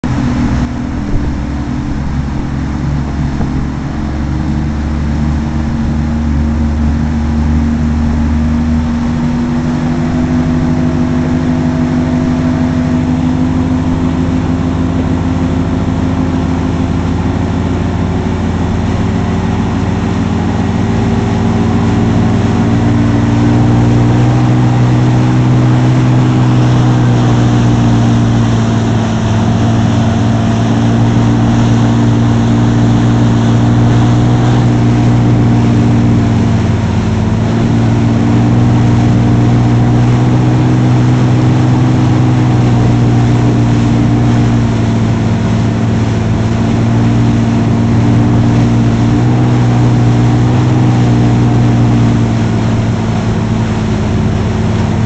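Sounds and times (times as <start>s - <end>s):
boat engine drone: 0.0s - 55.0s
churning wake water hiss: 0.1s - 55.0s.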